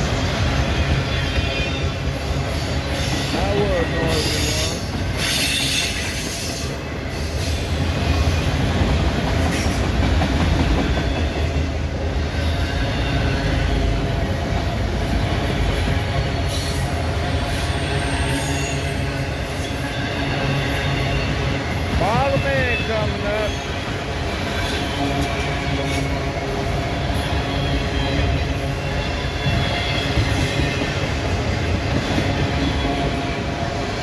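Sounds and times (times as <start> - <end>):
freight train rumbling past: 0.0 - 34.0
wheels clacking on rail: 0.0 - 34.0.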